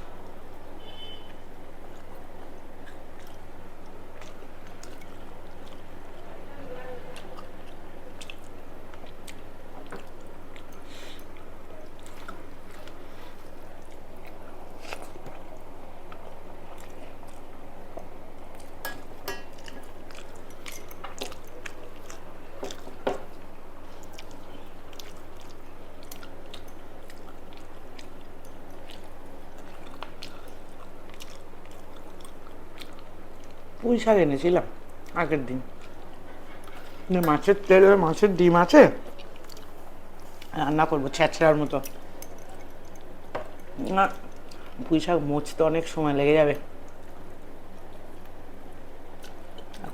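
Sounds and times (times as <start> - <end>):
steady low hum: 0.0 - 49.9
chewing and biting food: 1.7 - 33.8, 34.7 - 44.9, 46.7 - 49.9.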